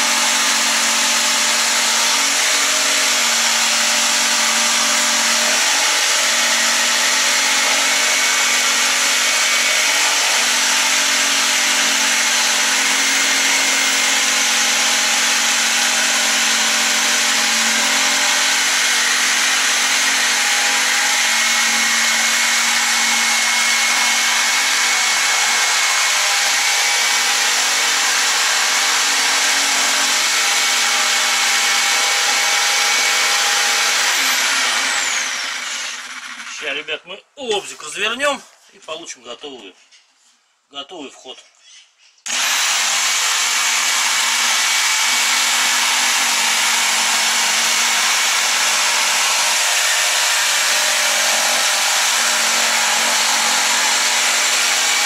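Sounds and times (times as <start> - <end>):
jigsaw cutting wood: 0.0 - 36.8, 42.3 - 55.0.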